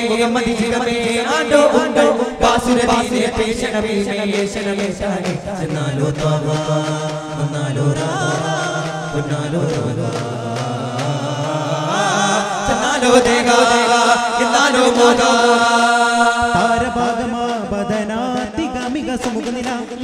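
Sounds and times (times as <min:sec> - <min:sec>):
frame drums struck in rhythm: 0:00.0 - 0:20.0
group singing devotional song: 0:00.0 - 0:20.0.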